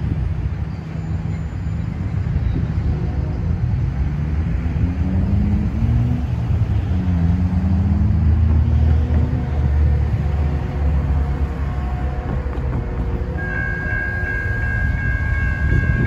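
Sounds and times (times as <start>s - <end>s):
rumble of engines and tyres: 0.0s - 16.0s.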